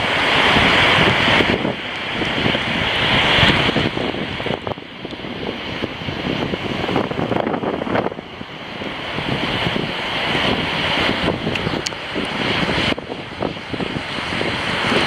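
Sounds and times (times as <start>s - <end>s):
surf rushing: 0.0s - 15.0s
wind buffeting microphone: 0.0s - 15.0s.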